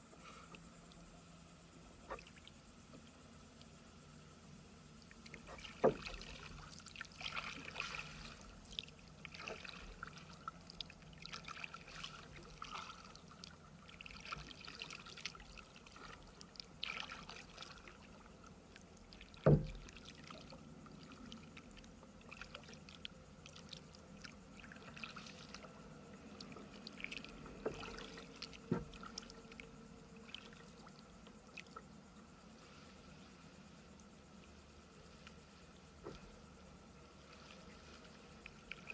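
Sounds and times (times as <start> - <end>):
paddle dipping and water dripping: 2.0 - 3.8, 5.0 - 32.3, 33.9 - 38.9.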